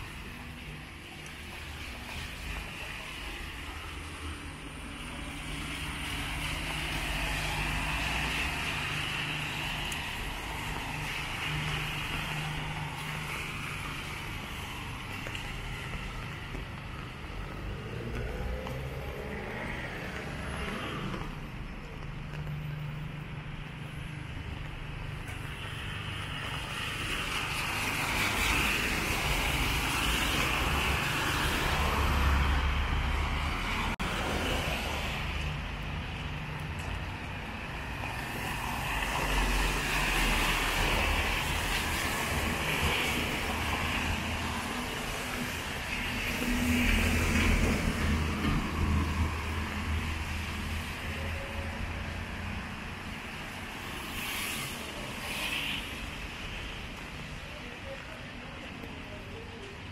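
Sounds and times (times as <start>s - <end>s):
tyres hissing on wet road: 0.0s - 21.6s, 23.7s - 59.9s.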